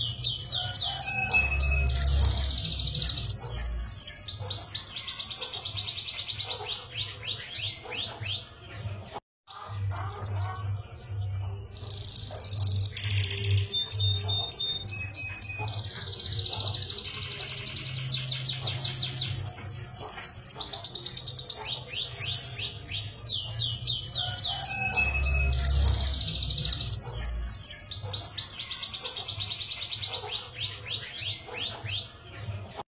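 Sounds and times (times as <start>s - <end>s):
canary singing: 0.0s - 32.8s.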